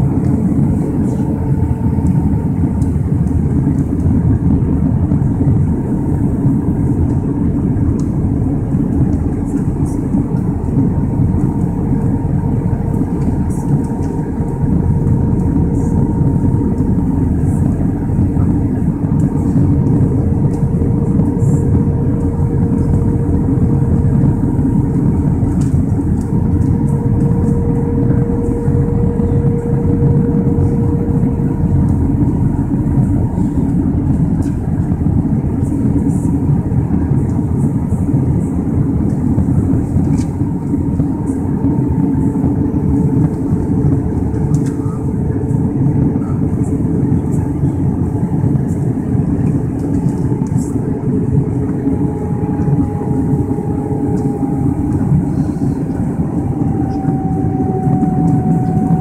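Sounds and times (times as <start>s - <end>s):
airflow and jet engines rushing: 0.0s - 59.0s
faint steady hum: 0.0s - 59.0s.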